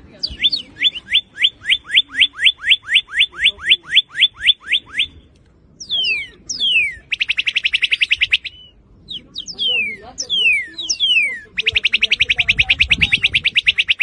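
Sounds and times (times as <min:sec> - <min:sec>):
bird singing whistles and trill: 0:00.2 - 0:14.0.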